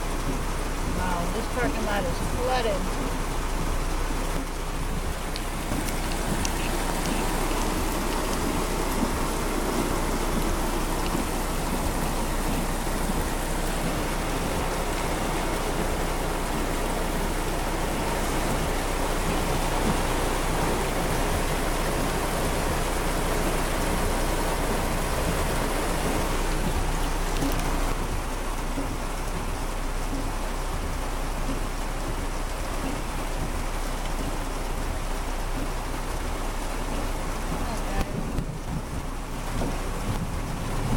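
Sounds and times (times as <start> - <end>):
heavy rain on a car: 0.0 - 40.9.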